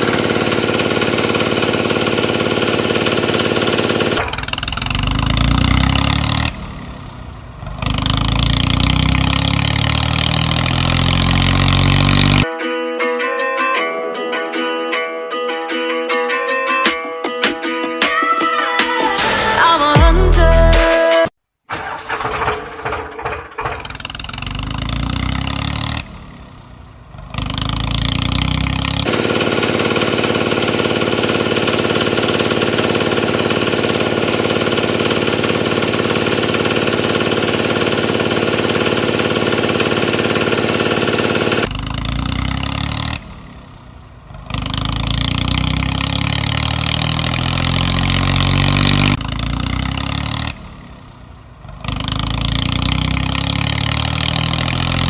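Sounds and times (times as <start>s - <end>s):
tractor engine running: 0.0s - 12.5s, 21.7s - 55.0s.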